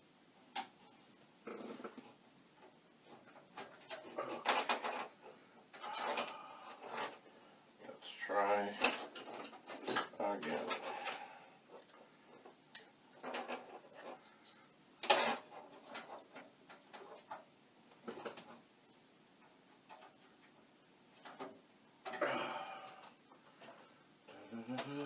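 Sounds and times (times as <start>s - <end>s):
small parts clicking and knocking: 0.5s - 0.9s, 1.5s - 7.3s, 8.3s - 22.3s.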